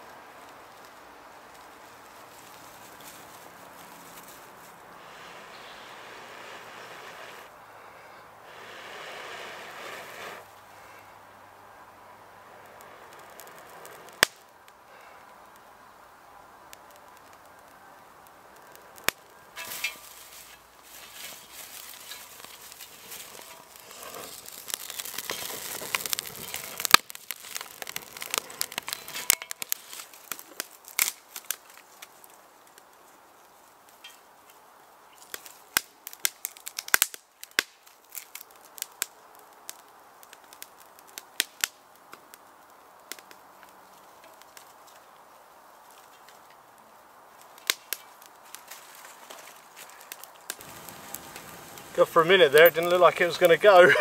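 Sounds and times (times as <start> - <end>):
tinder crackling as it burns: 0.0 - 54.0
twigs crackling and snapping in fire: 0.0 - 54.0.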